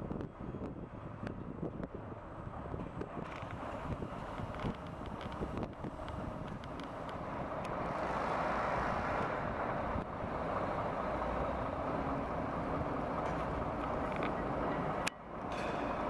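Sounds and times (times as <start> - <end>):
crane diesel engine running: 0.3 - 16.0.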